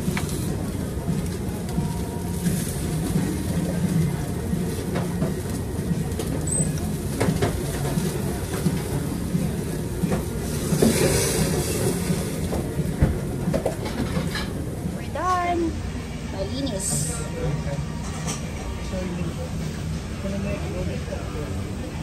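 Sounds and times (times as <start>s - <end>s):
ventilation hum: 0.0s - 22.0s.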